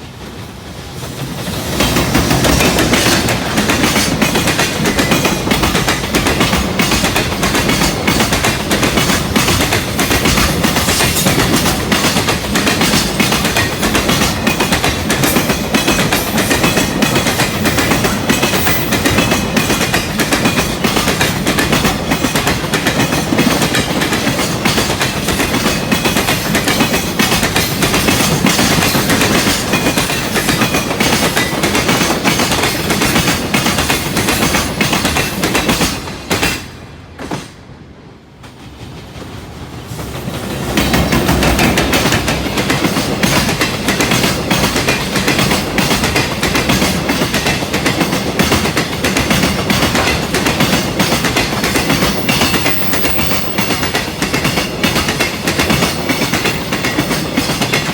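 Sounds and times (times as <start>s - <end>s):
train wheels clattering: 0.0s - 37.7s, 38.4s - 57.9s.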